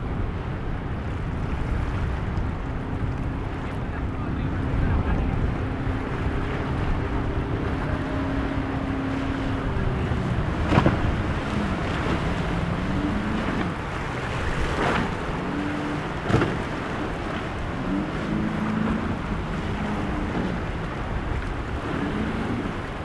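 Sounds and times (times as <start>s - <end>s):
powerboat engines running: 0.0s - 23.0s
surf: 0.0s - 23.0s
wind on microphone: 0.0s - 23.0s.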